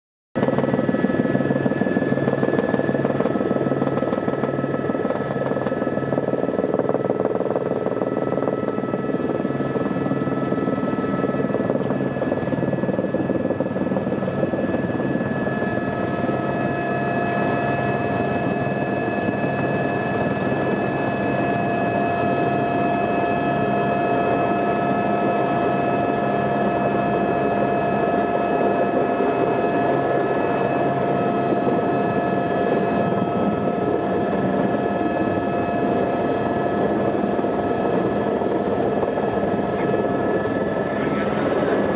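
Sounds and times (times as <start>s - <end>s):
helicopter engine and rotor: 0.4s - 41.9s.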